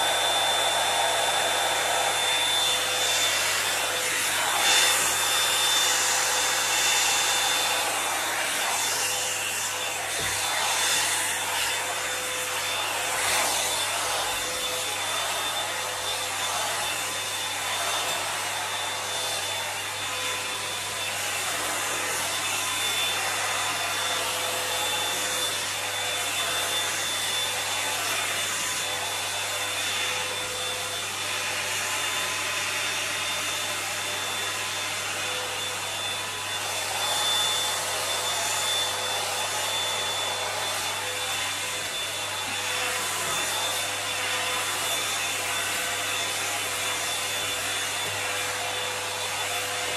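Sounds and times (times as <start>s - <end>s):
hot-air brush blowing and whining: 0.0s - 49.9s.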